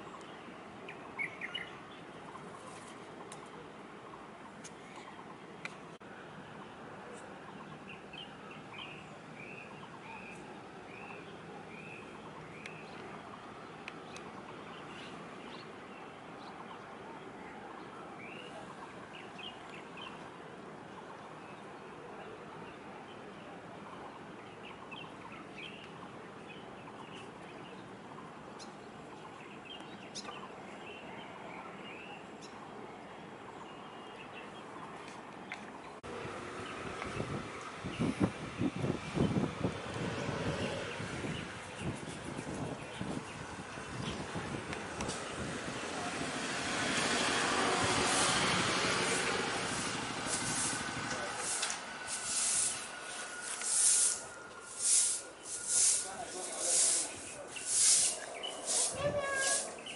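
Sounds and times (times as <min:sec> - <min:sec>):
small birds chirping: 0:00.0 - 0:05.8, 0:06.6 - 0:45.4, 0:49.0 - 0:59.9
distant urban hum: 0:00.0 - 0:59.9.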